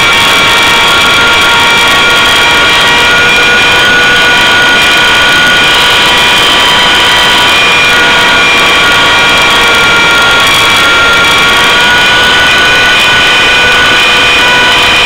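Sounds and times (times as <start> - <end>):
high whine of gears: 0.0 - 15.0
rotor rushing noise: 0.0 - 15.0.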